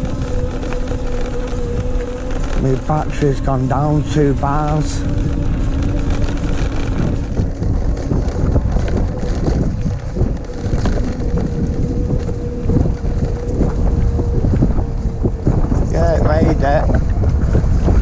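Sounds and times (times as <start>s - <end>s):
electric motor whining: 0.0s - 18.0s
tyre rumble: 0.0s - 18.0s
wind noise on microphone: 0.0s - 18.0s.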